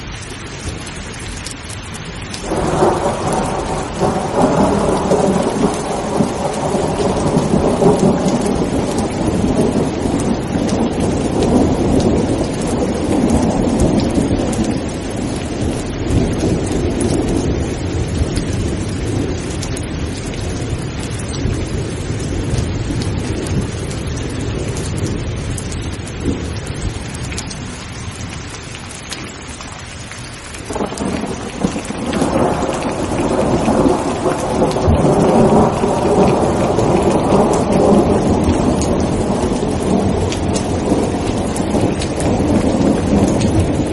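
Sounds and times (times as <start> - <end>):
heavy rain falling: 0.0 - 43.9
thunder rumbling: 2.4 - 29.4, 30.6 - 43.9.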